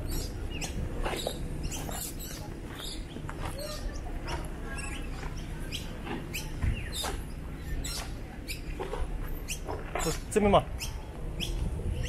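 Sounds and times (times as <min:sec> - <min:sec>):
birds chirping and calling: 0:00.0 - 0:12.0
steady low rumble: 0:00.0 - 0:12.0.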